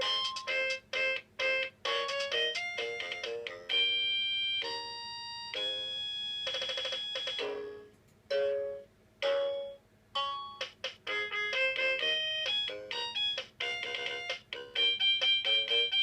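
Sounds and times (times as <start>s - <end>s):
toy keyboard electronic melody: 0.0s - 16.0s.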